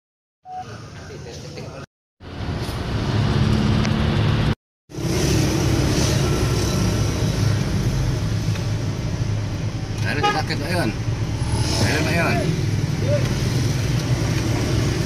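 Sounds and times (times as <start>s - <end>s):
car engine and road noise: 0.5s - 15.0s.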